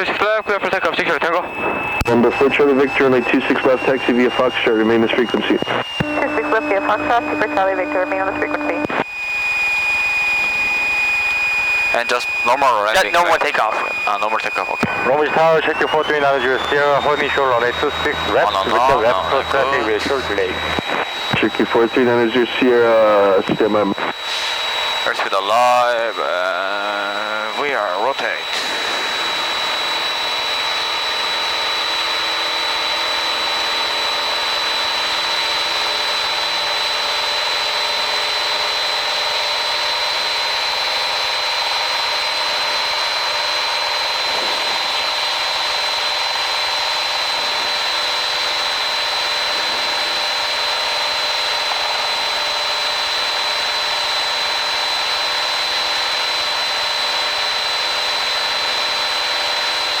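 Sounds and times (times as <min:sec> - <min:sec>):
aircraft engine and propeller drone: 0:00.0 - 1:00.0
constant high whine: 0:00.0 - 1:00.0.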